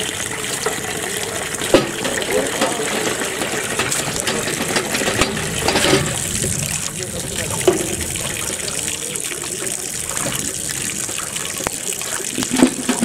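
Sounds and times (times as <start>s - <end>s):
tap water pouring into pot: 0.0s - 13.0s.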